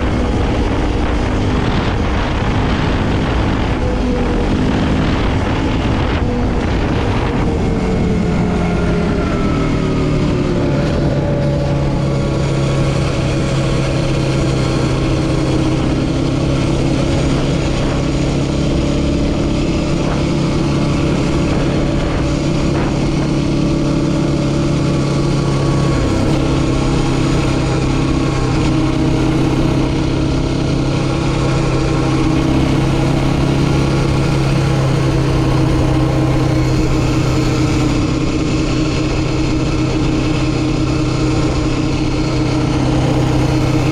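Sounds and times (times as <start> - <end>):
quad engine running: 0.0 - 43.9.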